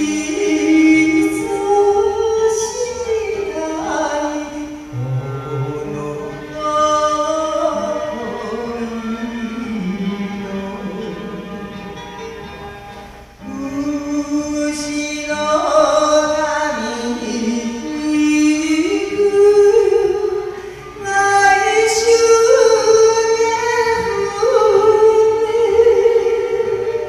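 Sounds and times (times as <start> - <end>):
woman singing into a microphone: 0.0 - 5.0, 5.6 - 11.6, 13.4 - 27.0
backing track: 0.0 - 27.0.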